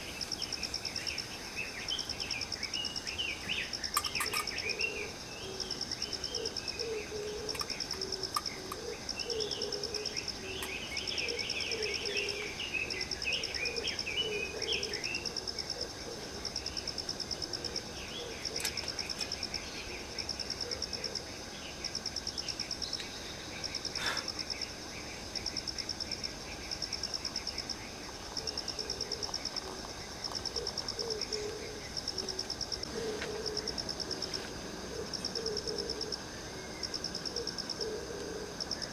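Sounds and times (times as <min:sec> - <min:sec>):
birds twittering: 0:00.0 - 0:38.9
insects chirping in pulsing trill: 0:00.0 - 0:38.9.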